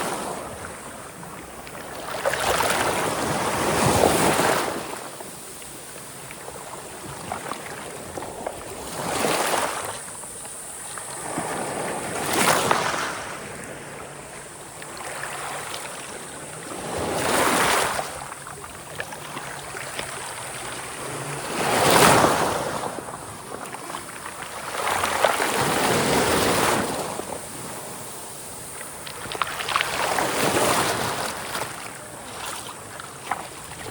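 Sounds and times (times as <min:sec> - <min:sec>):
sea waves breaking: 0:00.0 - 0:33.9.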